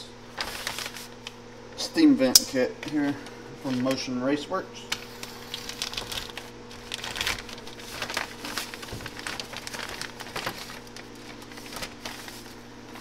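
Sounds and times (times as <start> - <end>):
faint steady hum: 0.0 - 13.0
plastic packaging crinkling: 0.3 - 1.5, 2.8 - 4.1, 4.8 - 13.0.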